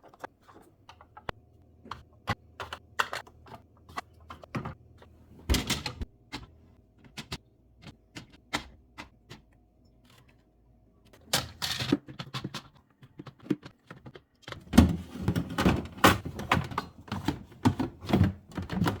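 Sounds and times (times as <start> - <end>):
food containers clicking and knocking: 0.0 - 10.4, 11.2 - 19.0.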